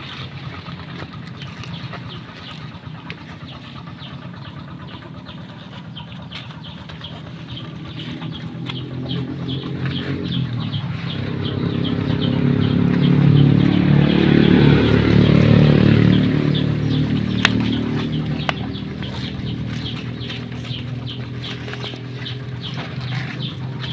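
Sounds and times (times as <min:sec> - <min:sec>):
vehicle engine passing by: 0:00.0 - 0:23.9.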